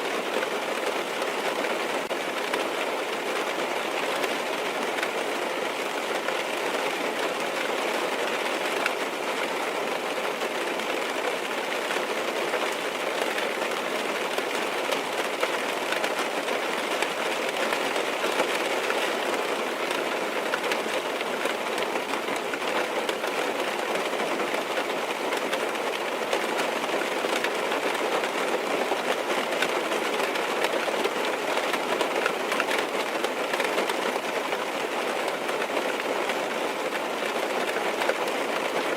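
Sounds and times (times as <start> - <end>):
rain hissing on a car: 0.0 - 38.9.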